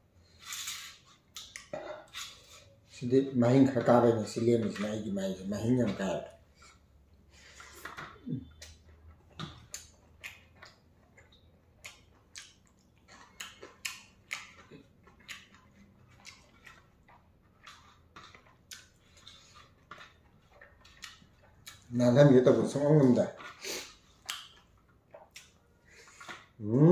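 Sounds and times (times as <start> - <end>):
man chewing food: 0.0 - 26.9.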